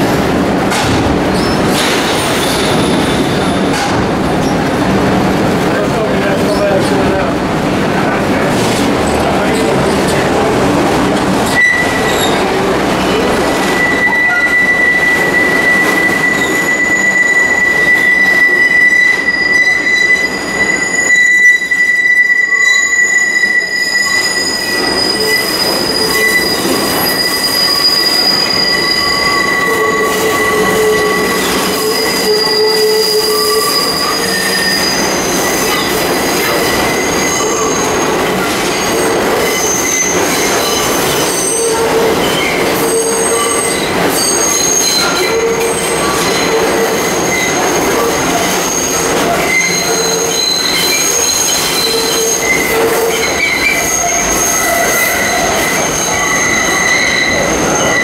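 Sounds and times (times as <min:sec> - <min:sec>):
rumble of train cars: 0:00.0 - 0:58.0
train wheels squealing: 0:01.3 - 0:03.6, 0:11.5 - 0:58.0.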